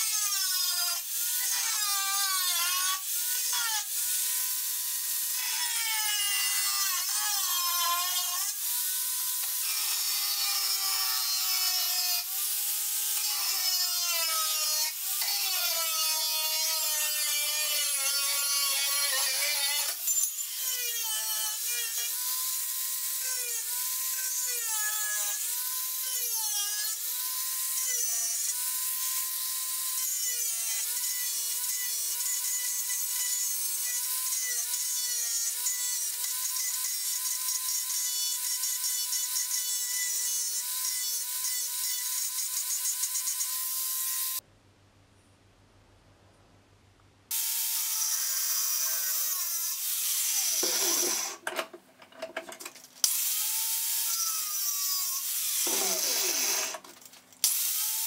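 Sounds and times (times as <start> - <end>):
angle grinder cutting metal: 0.0 - 44.4, 47.3 - 58.0.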